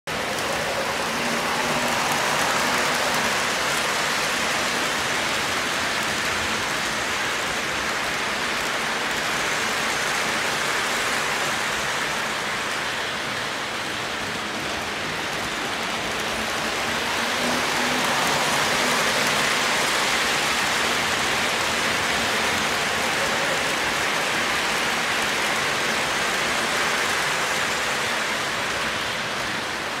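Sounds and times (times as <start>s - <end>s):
model train wheels rolling on rails: 0.1s - 30.0s.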